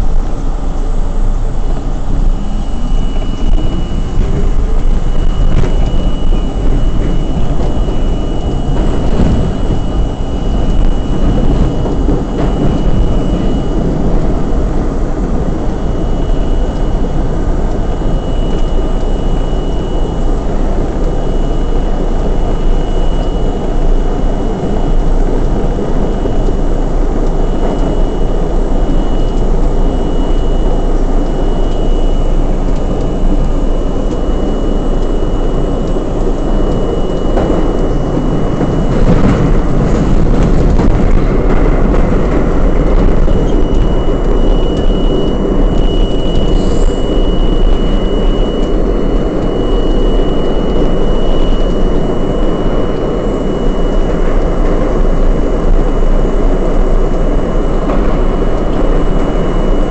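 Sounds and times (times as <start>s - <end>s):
high motor whine: 0.0s - 59.9s
subway car rumbling on track: 0.0s - 59.9s.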